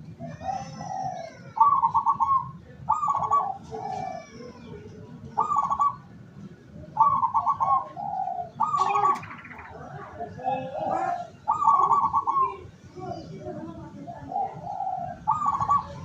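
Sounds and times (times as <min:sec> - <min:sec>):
dove cooing: 0:00.0 - 0:06.2, 0:06.8 - 0:16.0.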